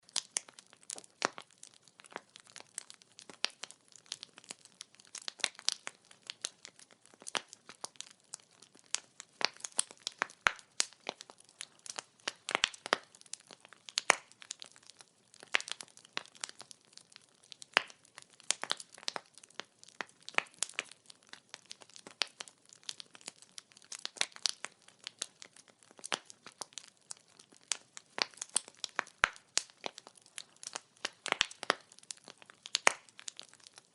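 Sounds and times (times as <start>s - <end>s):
firewood crackling and popping: 0.0s - 33.9s.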